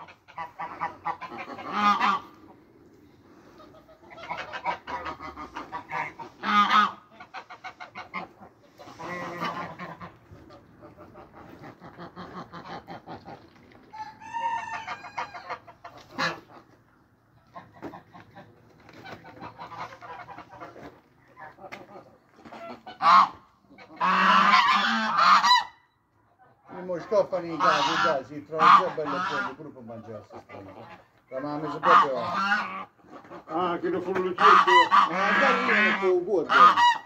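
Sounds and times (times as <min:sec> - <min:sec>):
geese cackling and honking: 0:00.0 - 0:37.0.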